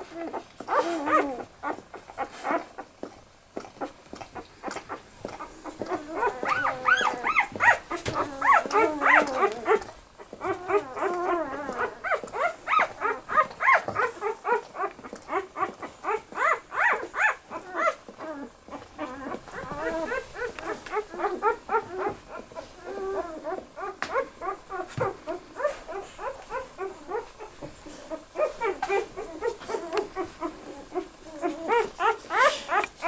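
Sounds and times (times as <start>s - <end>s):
puppies squeaking and whimpering: 0.1s - 2.9s, 3.8s - 33.0s.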